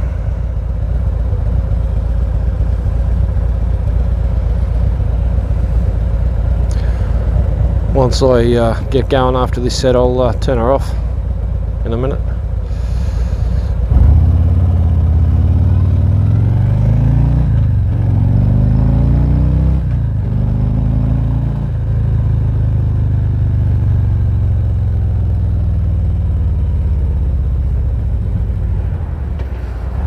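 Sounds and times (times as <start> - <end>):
motorcycle engine accelerating: 0.0 - 9.2, 11.2 - 30.0.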